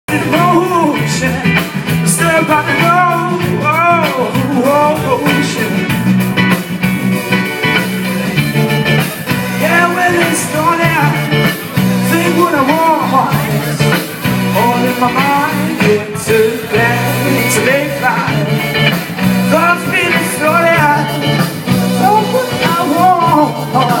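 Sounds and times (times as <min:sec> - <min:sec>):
drums: 0:00.0 - 0:24.0
bass line: 0:00.1 - 0:24.0
electric guitar: 0:00.1 - 0:24.0
live band playing: 0:00.1 - 0:24.0.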